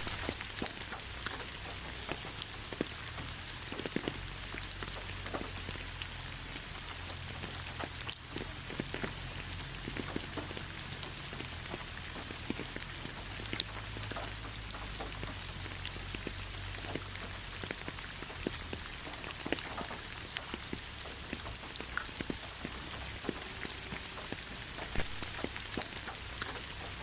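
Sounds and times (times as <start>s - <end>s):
raindrops tapping on a surface: 0.0s - 27.0s
steady rain: 0.0s - 27.0s.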